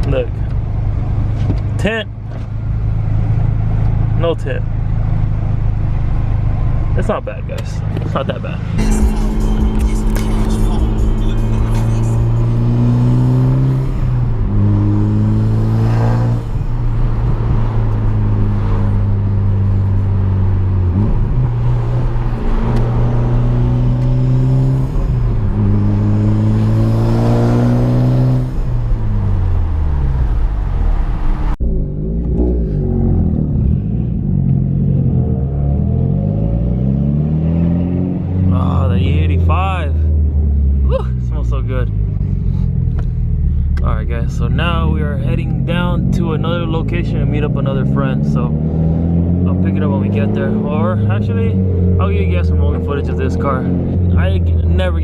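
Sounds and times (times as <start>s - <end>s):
car engine running: 0.0s - 35.2s, 38.5s - 55.0s.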